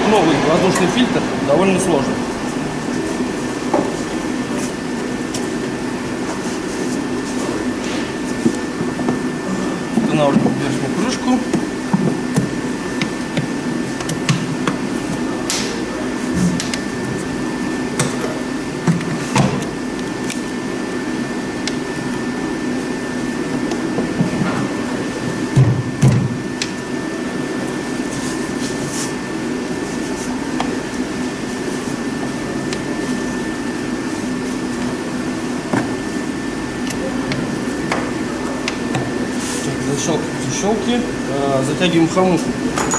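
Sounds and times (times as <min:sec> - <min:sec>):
steady background hum: 0:00.0 - 0:42.9.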